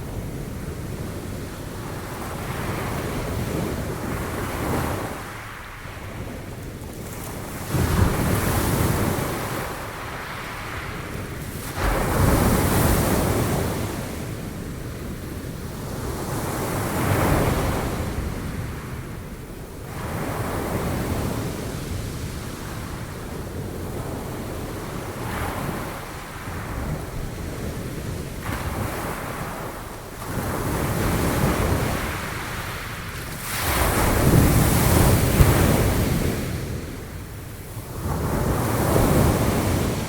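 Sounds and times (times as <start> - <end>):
sea waves breaking on shore: 0.0 - 40.0
wind noise on microphone: 0.0 - 40.0.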